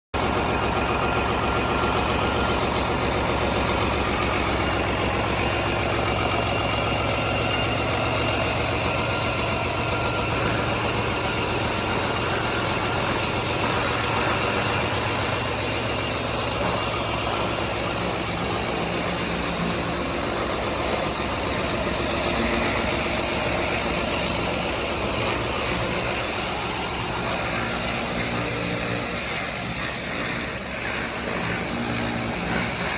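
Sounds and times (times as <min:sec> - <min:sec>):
engine running steadily: 0:00.1 - 0:32.9.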